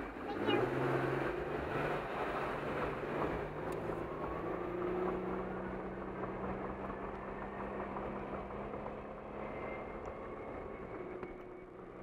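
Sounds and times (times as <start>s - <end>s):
car engine and tyre hum: 0.0s - 12.0s.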